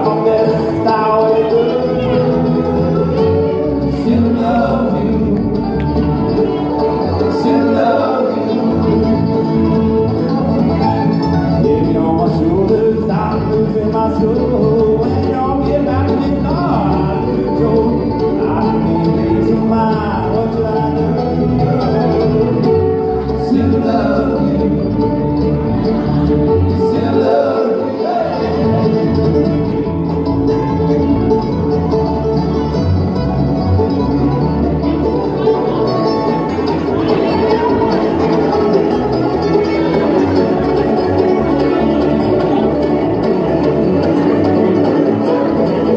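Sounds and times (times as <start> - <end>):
bluegrass band playing: 0.0 - 45.9
plucked upright bass: 0.0 - 45.9.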